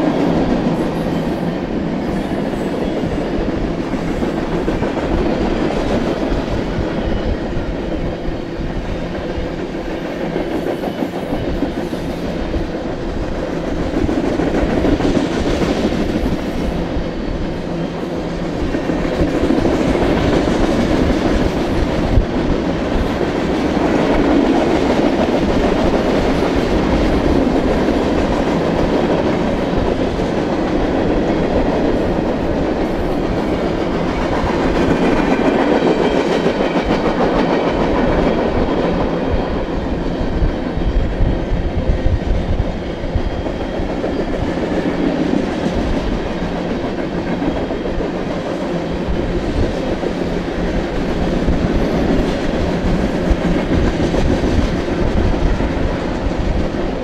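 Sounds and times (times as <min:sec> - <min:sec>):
train wheels running on rails: 0:00.0 - 0:57.0.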